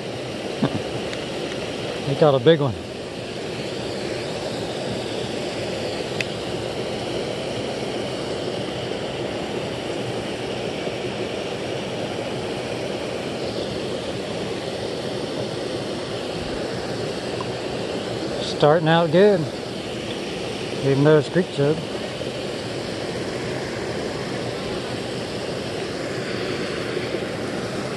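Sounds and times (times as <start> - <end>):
creek water rushing: 0.0 - 27.9.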